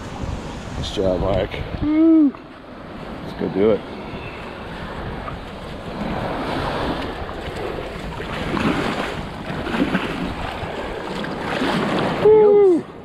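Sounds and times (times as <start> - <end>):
wind buffeting microphone: 0.0 - 13.0
small waves washing on sand: 2.4 - 13.0.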